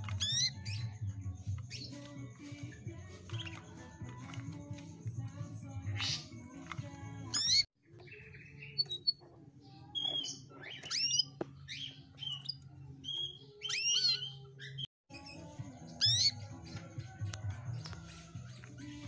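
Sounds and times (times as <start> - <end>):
canary chirping and whistling: 0.0 - 19.0.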